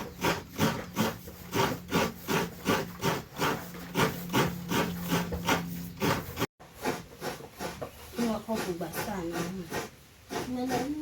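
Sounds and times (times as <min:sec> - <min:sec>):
rhythmic hand scraping: 0:00.0 - 0:11.0.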